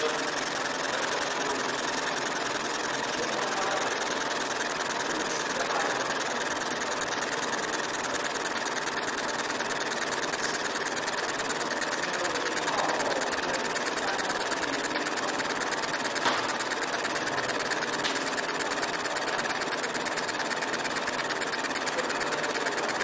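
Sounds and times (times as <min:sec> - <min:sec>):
laser engraver pulsing hiss: 0:00.0 - 0:23.0.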